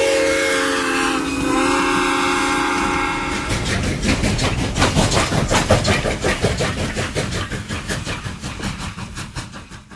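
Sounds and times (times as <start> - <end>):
steam locomotive chuffing: 0.0 - 9.9.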